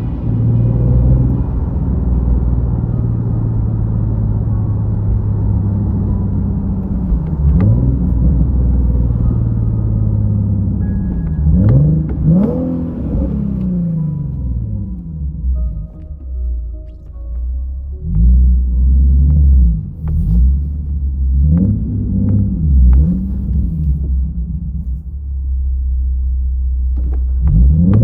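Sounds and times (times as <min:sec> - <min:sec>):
car exhaust drone: 0:00.0 - 0:28.0.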